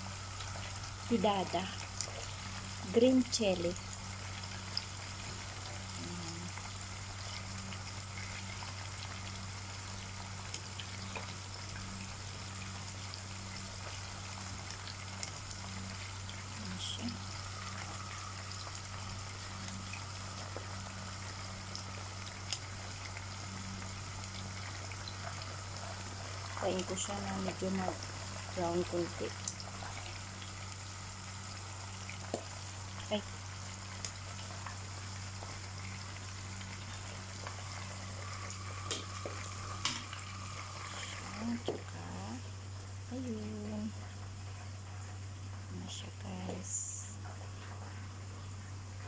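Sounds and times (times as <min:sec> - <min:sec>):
pepper sizzling in hot oil: 0:00.0 - 0:42.4
low constant hum: 0:00.0 - 0:49.0.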